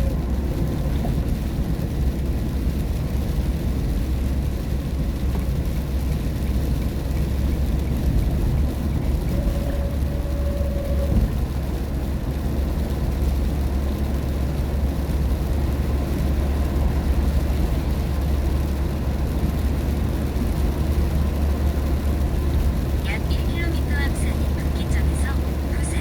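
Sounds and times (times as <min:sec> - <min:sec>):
rain on car: 0:00.0 - 0:26.0
tyre and engine rumble: 0:00.0 - 0:26.0.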